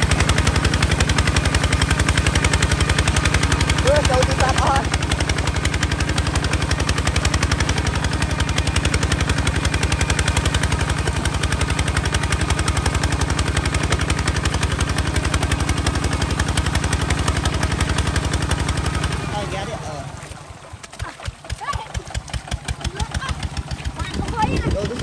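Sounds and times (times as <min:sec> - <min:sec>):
diesel engine running under load: 0:00.0 - 0:25.0
wheels churning through mud: 0:00.0 - 0:25.0.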